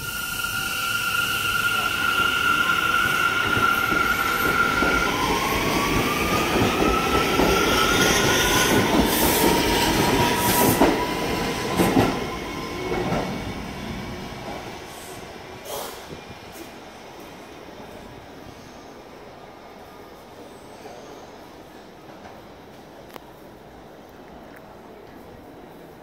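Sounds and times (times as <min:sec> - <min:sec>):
subway train whine rising: 0:00.0 - 0:23.8.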